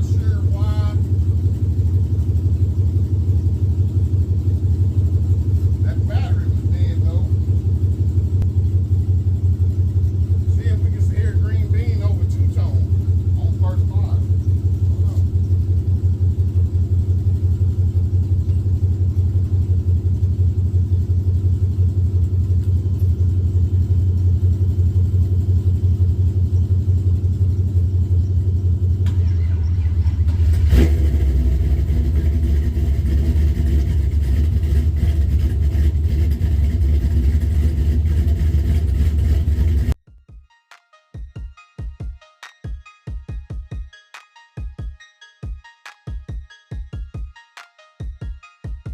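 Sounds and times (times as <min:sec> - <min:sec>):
engine low pulsing rumble: 0:00.0 - 0:40.0.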